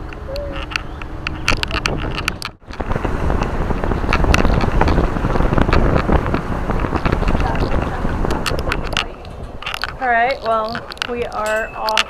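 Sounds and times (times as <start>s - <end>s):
moving vehicle rumble: 0.0s - 12.0s
wind buffeting microphone: 0.0s - 12.0s.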